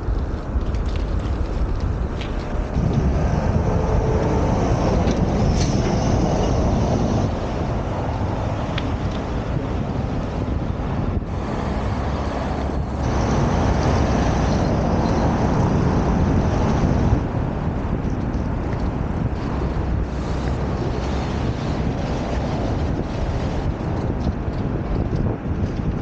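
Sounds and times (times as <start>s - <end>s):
street traffic rumble: 0.0s - 26.0s
vehicle passing close: 2.7s - 23.8s.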